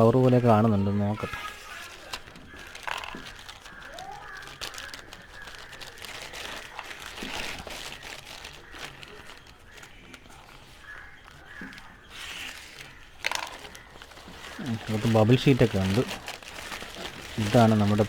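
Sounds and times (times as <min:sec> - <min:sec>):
plastic packaging crinkling: 0:00.0 - 0:18.0
small clicks and crackles: 0:00.0 - 0:18.0.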